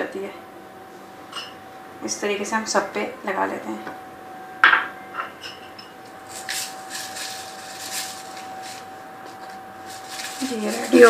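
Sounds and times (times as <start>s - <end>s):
steady faint hum: 0.0s - 11.0s.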